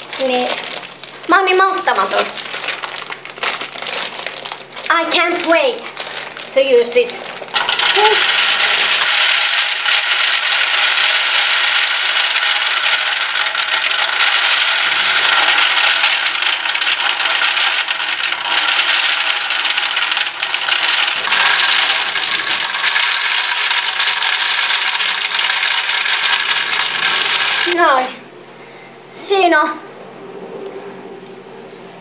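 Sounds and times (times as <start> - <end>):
nuts rattling in metal feeder: 0.0 - 28.1.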